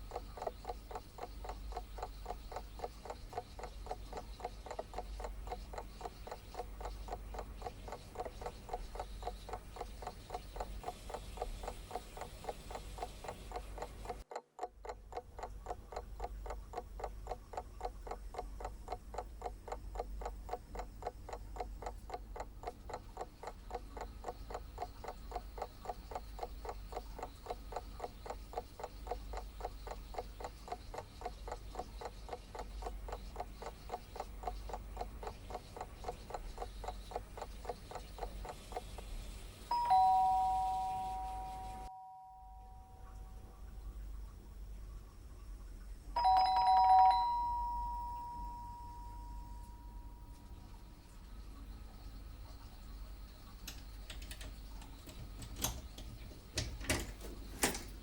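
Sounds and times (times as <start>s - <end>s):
clock ticking: 0.0s - 41.9s, 51.7s - 58.0s.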